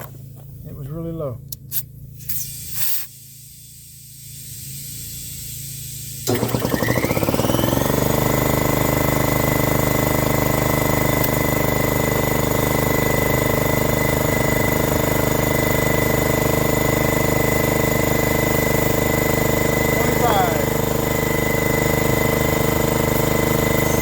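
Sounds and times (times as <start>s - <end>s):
air compressor running: 1.6s - 24.0s.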